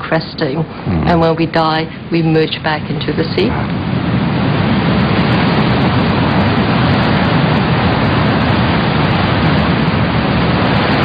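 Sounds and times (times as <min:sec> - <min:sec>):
ocean surf on rocks: 0:00.5 - 0:11.0.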